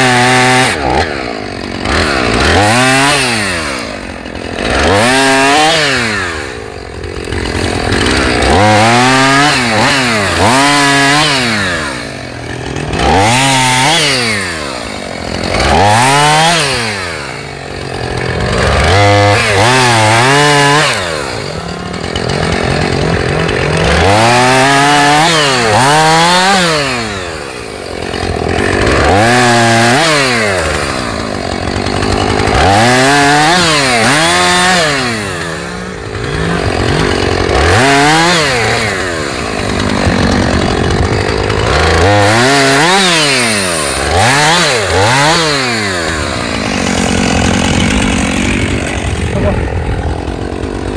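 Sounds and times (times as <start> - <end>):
chainsaw cutting logs: 0.0 - 50.9.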